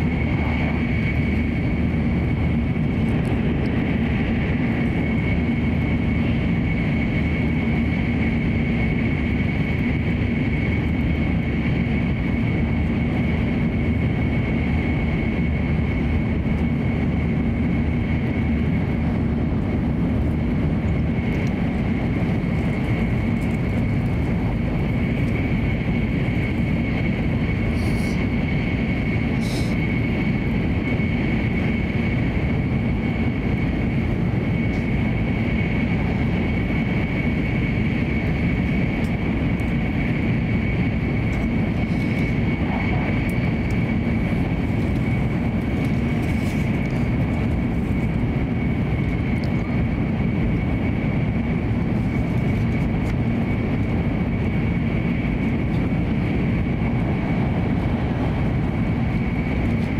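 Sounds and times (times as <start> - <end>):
constant high whine: 0.0 - 59.9
train running rumble: 0.0 - 59.9.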